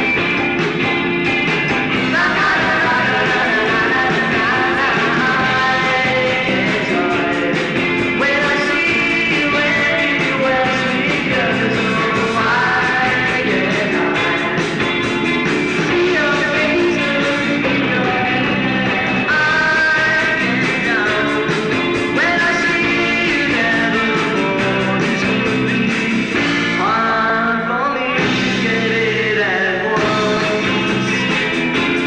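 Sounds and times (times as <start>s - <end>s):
drums: 0.0s - 32.0s
electric bass: 0.0s - 32.0s
rock band playing live: 0.0s - 32.0s
sliding lead guitar line: 0.0s - 32.0s.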